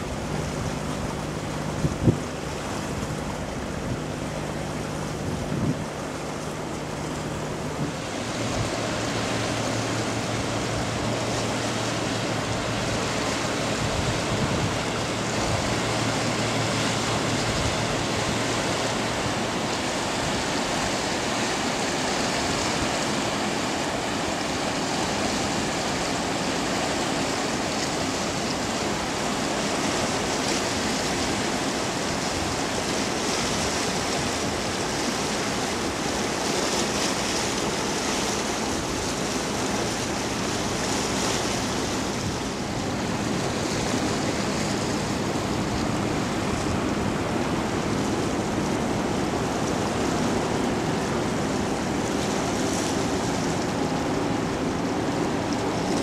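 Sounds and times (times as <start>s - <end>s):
water rushing from ship bow wave: 0.0s - 56.0s.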